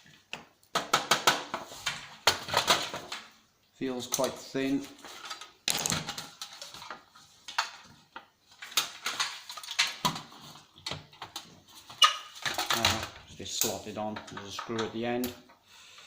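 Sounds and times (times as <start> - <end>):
plastic and metal parts rattling: 0.7 - 3.2, 4.1 - 15.4.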